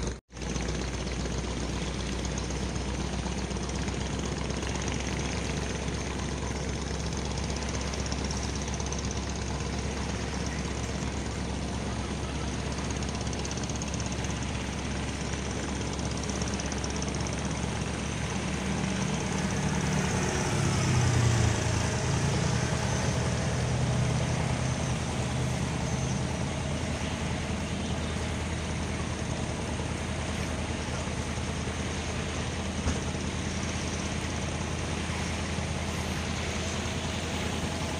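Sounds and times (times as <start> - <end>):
boat engine drone: 0.0 - 37.9.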